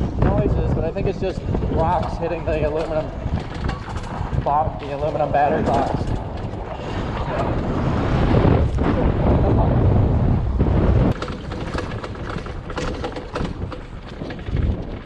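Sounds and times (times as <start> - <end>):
dirt bike clattering and rattling: 0.0 - 15.0
wind rumbling on microphone: 0.0 - 15.0.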